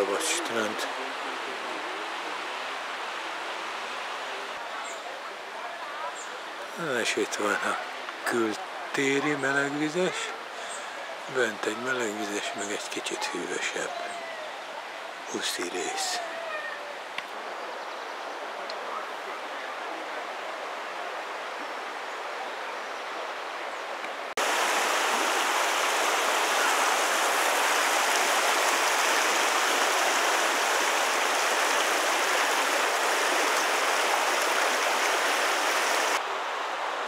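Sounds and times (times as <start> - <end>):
river rushing over stones: 0.0 - 17.6, 18.5 - 37.0
faint outdoor hiss: 0.0 - 37.0.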